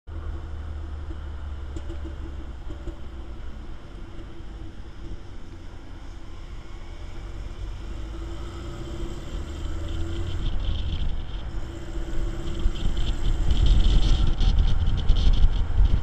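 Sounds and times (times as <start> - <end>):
off-road vehicle engine rumble: 0.1 - 16.0.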